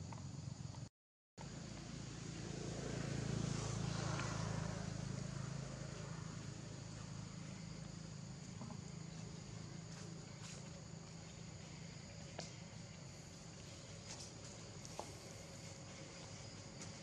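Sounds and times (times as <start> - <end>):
outdoor background noise: 0.0 - 17.0
distant motor vehicle hum: 1.4 - 17.0.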